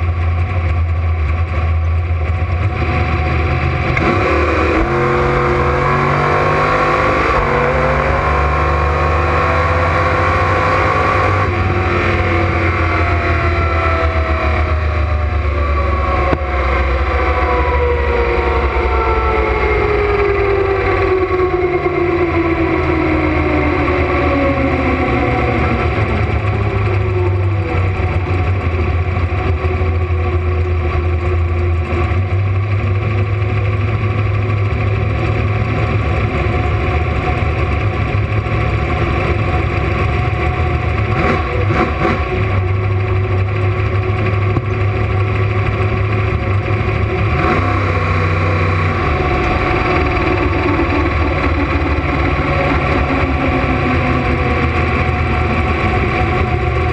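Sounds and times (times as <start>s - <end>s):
car engine rumbling: 0.0s - 56.9s.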